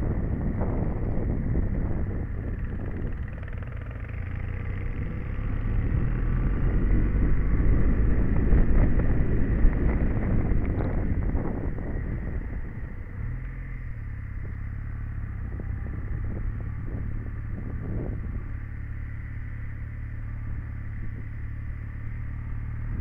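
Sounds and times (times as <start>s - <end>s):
motorcycle engine pulling uphill: 0.0s - 23.0s.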